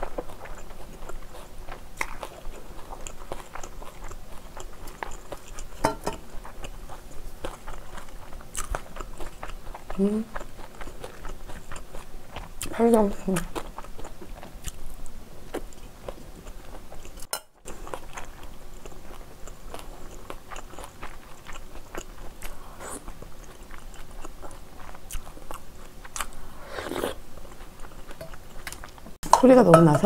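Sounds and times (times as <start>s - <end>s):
close-miked chewing: 0.0s - 29.2s.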